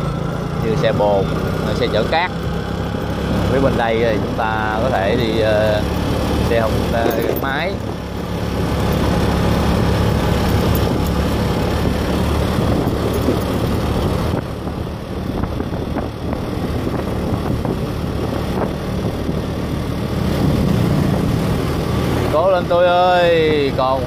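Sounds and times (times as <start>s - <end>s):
motorbike engine running: 0.0s - 24.0s
road and wind noise: 0.0s - 24.0s.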